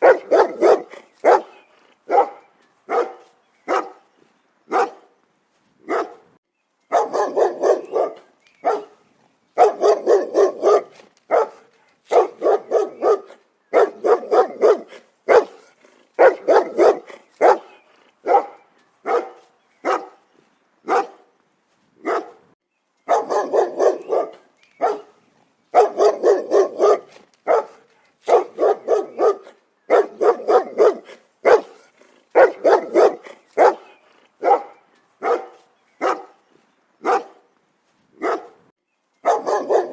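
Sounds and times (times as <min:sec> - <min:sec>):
dog barking: 0:00.0 - 0:04.0, 0:04.7 - 0:05.1, 0:05.8 - 0:06.3, 0:06.9 - 0:09.0, 0:09.6 - 0:20.2, 0:20.9 - 0:21.3, 0:22.0 - 0:22.4, 0:23.1 - 0:36.4, 0:37.0 - 0:37.5, 0:38.2 - 0:39.9.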